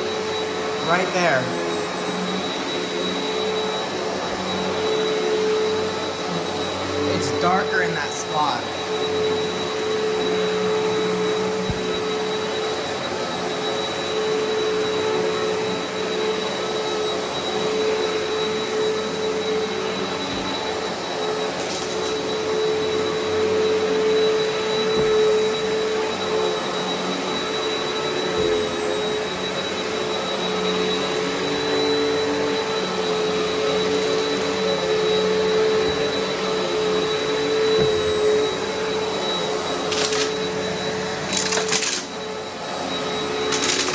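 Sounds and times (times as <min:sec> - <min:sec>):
vacuum cleaner running on carpet: 0:00.0 - 0:43.9.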